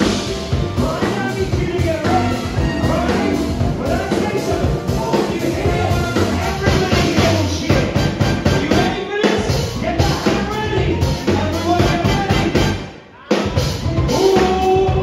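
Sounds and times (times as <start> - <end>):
rock band with singer: 0.0 - 15.0.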